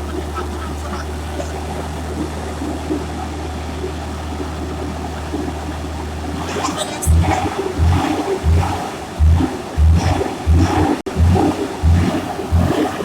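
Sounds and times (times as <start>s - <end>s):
road noise: 0.0s - 13.0s
truck engine droning: 0.0s - 13.0s.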